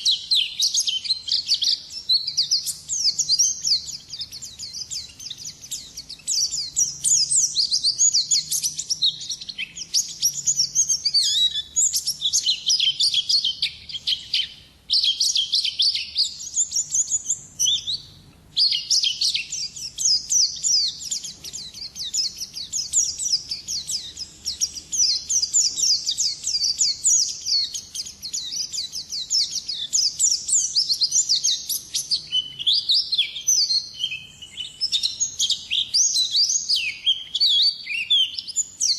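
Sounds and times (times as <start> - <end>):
bird twittering: 0.0 - 38.9.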